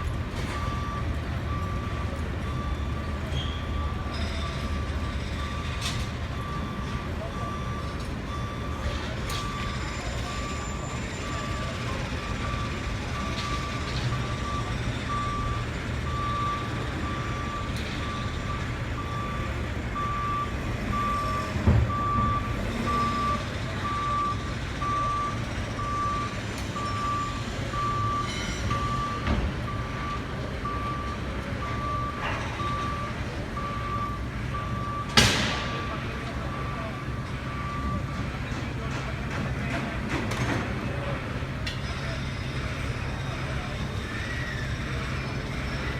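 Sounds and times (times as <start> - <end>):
diesel engine rumble: 0.0 - 45.9
truck reversing alarm beeping: 0.0 - 45.9.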